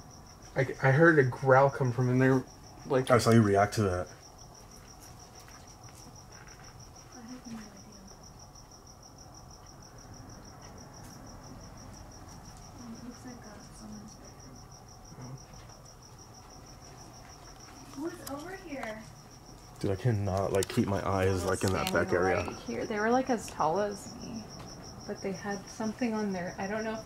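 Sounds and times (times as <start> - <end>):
high-pitched insect trill: 0.0 - 27.0.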